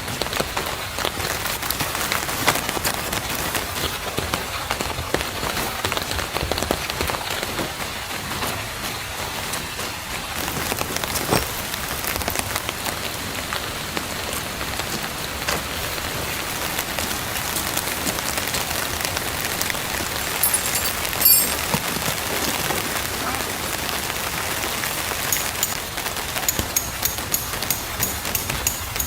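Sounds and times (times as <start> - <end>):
rain drops pattering: 0.0 - 20.4, 21.8 - 29.0.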